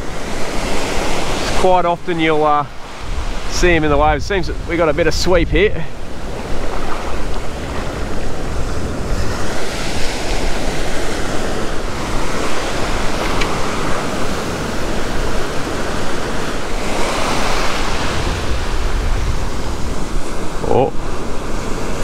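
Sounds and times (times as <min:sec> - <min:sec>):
ocean surf breaking and washing: 0:00.0 - 0:22.0
wind buffeting microphone: 0:00.0 - 0:22.0.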